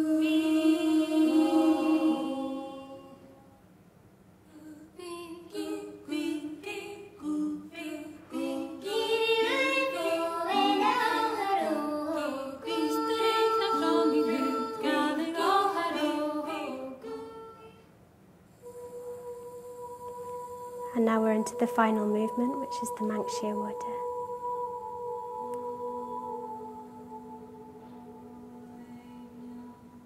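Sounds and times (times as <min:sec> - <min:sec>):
women singing a cappella: 0:00.0 - 0:03.5, 0:04.5 - 0:17.8, 0:18.6 - 0:30.0.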